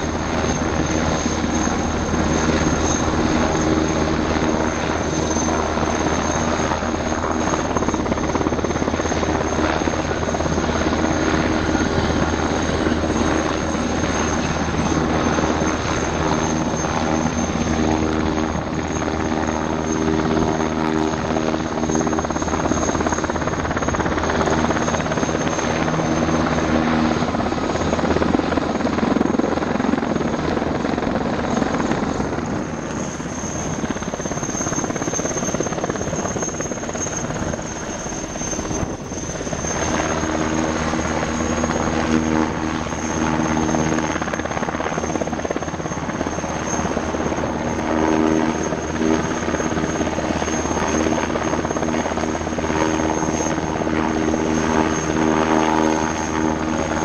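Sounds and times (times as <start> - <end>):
helicopter rotor noise: 0.0 - 57.0
high turbine whine: 0.0 - 57.0.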